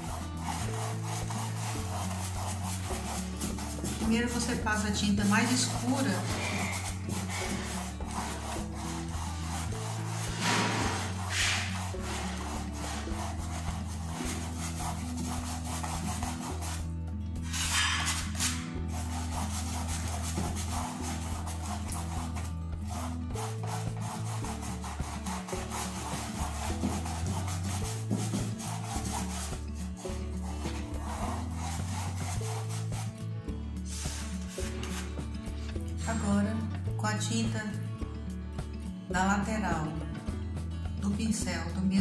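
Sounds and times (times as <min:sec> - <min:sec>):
brush scrubbing on canvas: 0:00.0 - 0:35.8
soft background music: 0:00.0 - 0:42.0.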